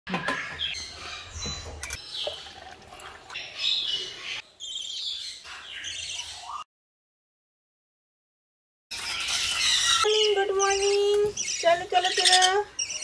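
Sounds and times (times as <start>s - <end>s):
birds chirping: 0.1s - 6.7s, 8.9s - 13.0s.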